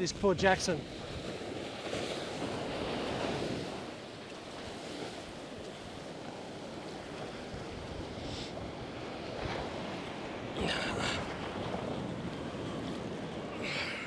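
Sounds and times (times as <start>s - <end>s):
surf washing onto beach: 0.0s - 14.0s
wind rumbling on microphone: 0.0s - 14.0s.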